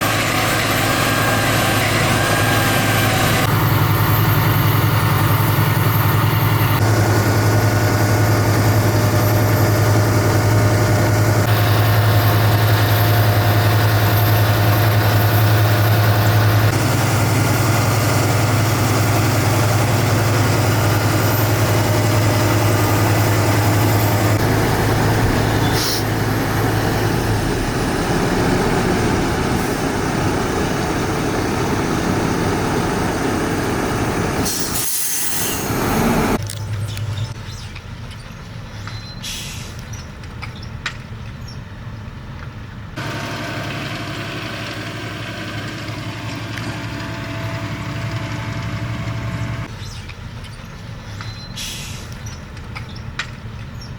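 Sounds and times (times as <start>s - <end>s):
tractor diesel engine droning: 0.0s - 53.9s.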